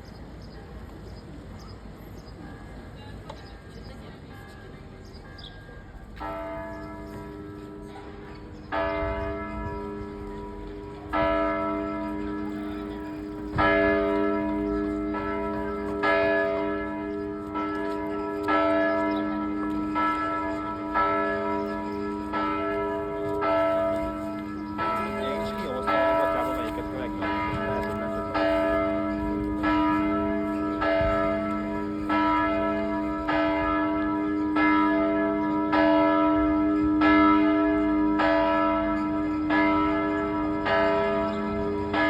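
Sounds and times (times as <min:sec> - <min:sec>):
church bell ringing: 0:04.3 - 0:42.0.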